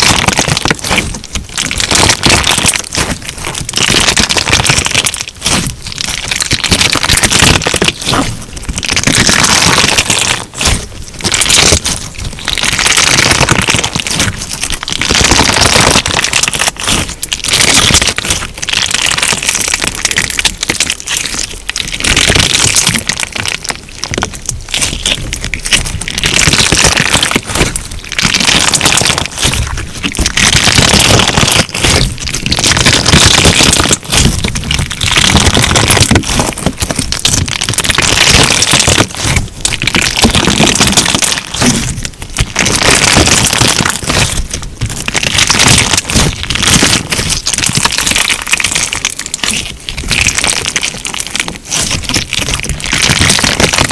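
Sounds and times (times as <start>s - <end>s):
slime crunching and crackling: 0.0s - 53.9s.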